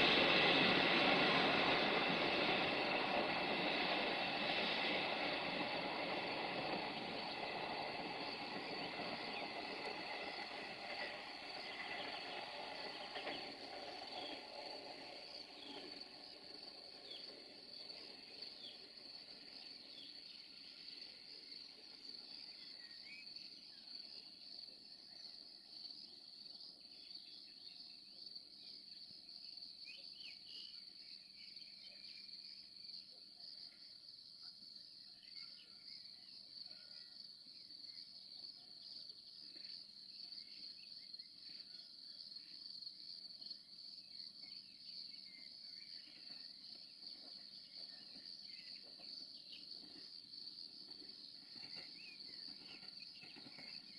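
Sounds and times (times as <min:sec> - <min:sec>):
crickets chirring: 0:00.0 - 0:53.9.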